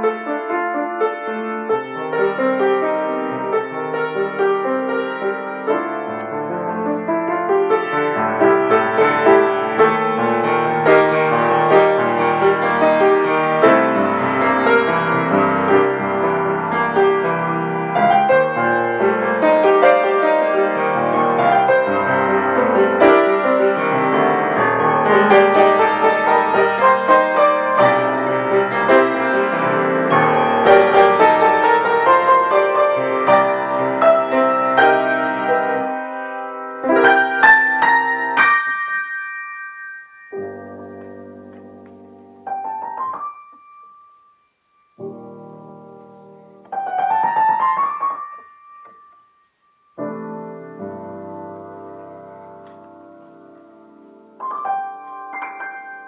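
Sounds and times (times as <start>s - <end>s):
piano improvisation: 0.0s - 56.0s.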